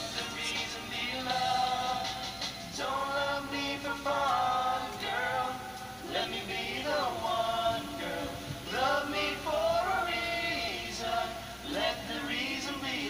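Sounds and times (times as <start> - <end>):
backing music: 0.0 - 13.0
men singing together: 0.0 - 13.0.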